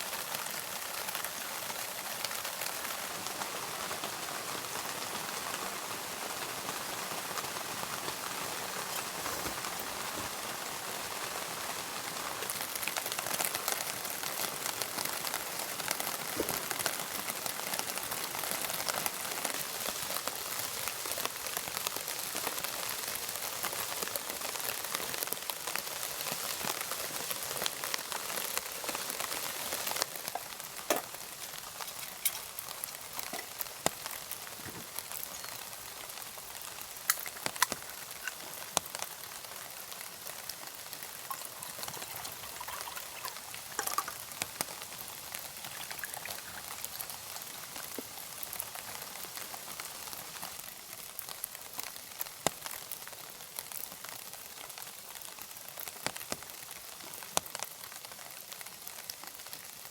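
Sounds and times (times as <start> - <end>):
campfire crackling: 0.0 - 59.9.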